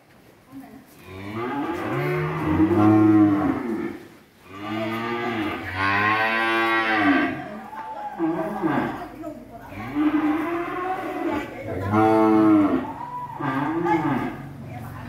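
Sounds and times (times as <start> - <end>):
cattle mooing: 1.0 - 14.6.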